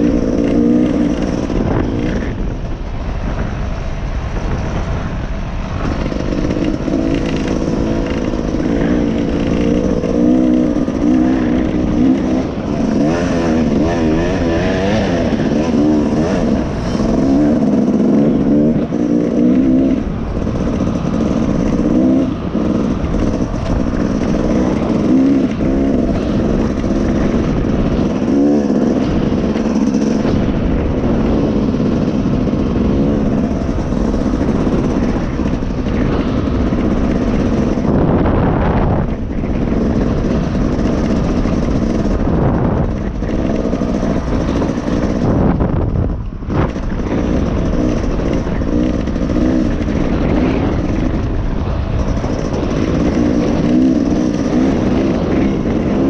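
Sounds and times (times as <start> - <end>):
dirt bike engine revving: 0.0 - 3.8, 4.4 - 56.0.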